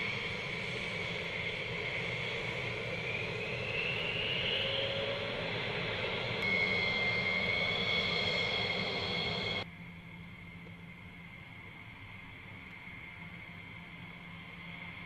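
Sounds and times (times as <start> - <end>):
jet engine whine: 0.0 - 15.0.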